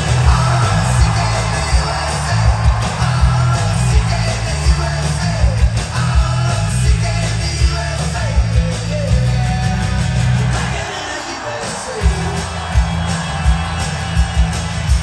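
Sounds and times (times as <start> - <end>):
song with singing and bass: 0.0 - 15.0.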